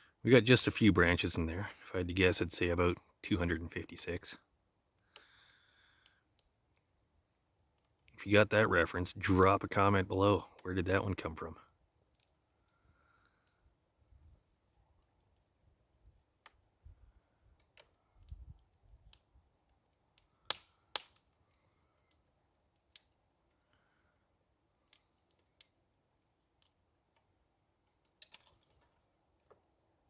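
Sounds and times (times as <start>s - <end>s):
brush fire crackling and popping: 0.0s - 30.0s.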